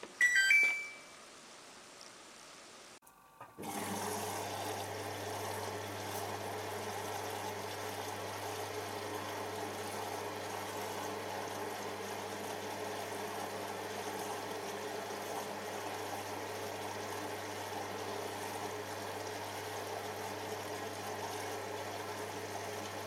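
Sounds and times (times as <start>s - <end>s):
water running through washing machine: 3.4s - 23.0s.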